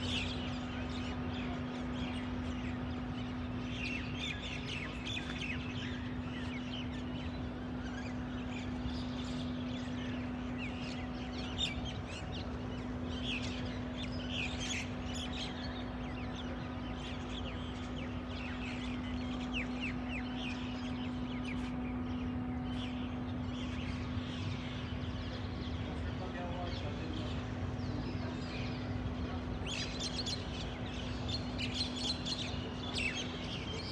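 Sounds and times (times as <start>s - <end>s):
small birds chirping: 0.0s - 33.9s
steady low hum: 0.0s - 33.9s.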